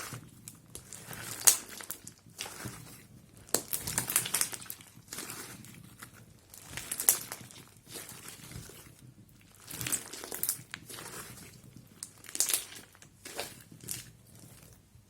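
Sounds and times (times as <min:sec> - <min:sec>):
crunchy slime crackling: 0:00.0 - 0:14.8.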